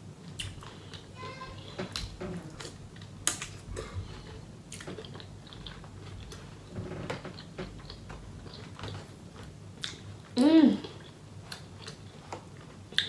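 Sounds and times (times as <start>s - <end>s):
person chewing food: 0.2s - 13.0s.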